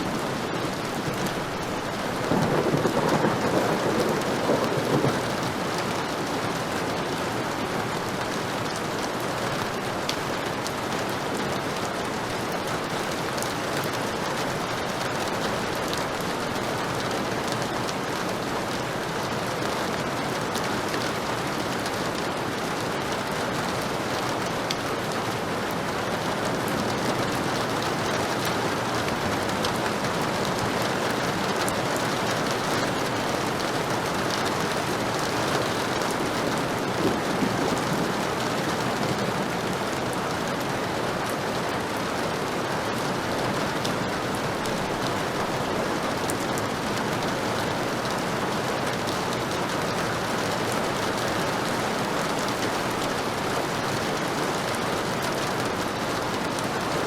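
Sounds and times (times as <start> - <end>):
heavy rain hissing: 0.0 - 57.0
raindrops ticking on surfaces: 0.0 - 57.0.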